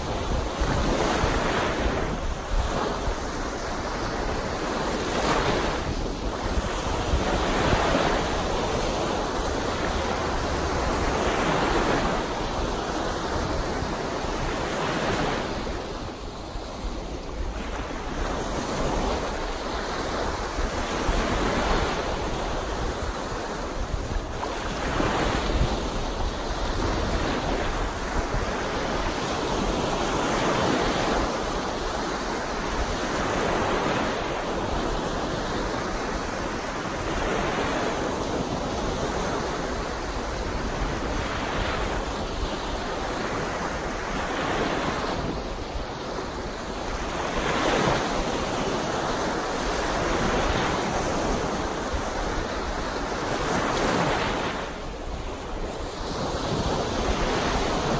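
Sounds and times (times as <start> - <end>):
waves washing up a sandy beach: 0.0 - 57.9
wind rumbling on microphone: 0.0 - 57.9.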